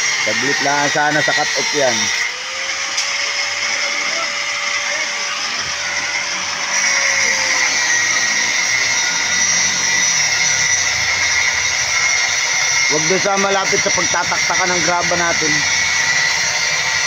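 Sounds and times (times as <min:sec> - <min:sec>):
angle grinder cutting steel: 0:00.0 - 0:17.0.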